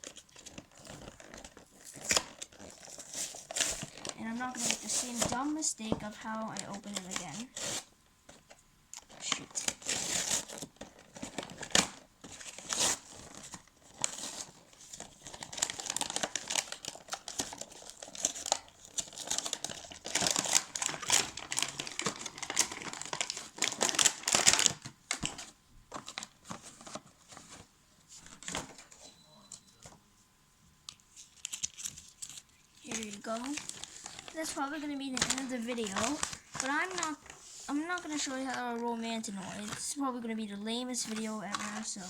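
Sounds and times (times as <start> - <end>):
packaging crinkling and tearing: 0.0 - 8.4, 9.0 - 29.0, 30.9 - 40.0, 40.9 - 42.0.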